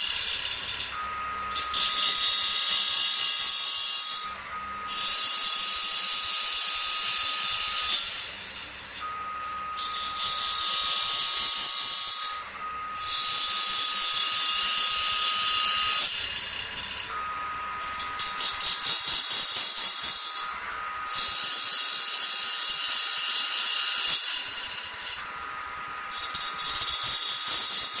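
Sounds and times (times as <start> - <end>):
grinding wheel hissing on steel: 0.0 - 28.0
machine whine: 0.0 - 28.0.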